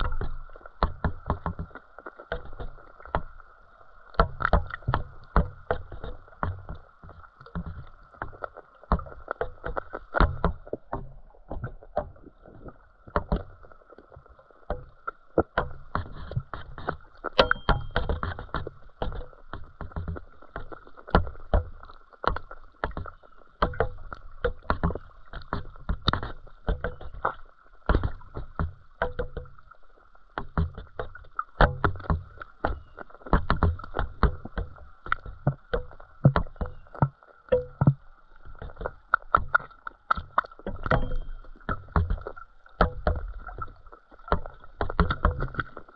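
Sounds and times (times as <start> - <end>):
low underwater thumps: 0.0 - 45.9
underwater clicks and knocks: 0.0 - 45.9.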